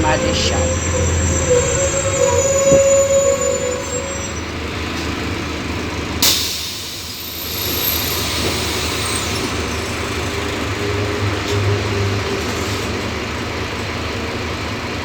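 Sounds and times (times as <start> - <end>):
city bus engine running: 0.0 - 15.0.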